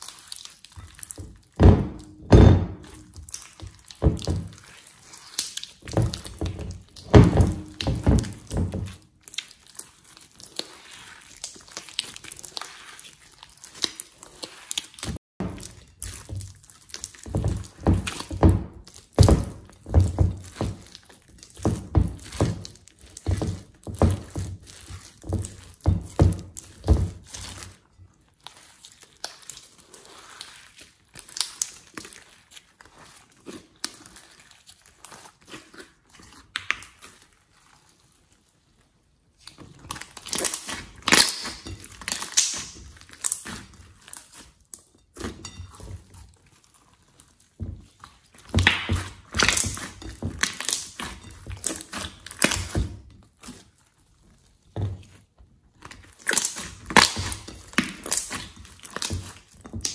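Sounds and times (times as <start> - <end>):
slime squishing and popping: 0.0 - 37.7, 39.4 - 59.9.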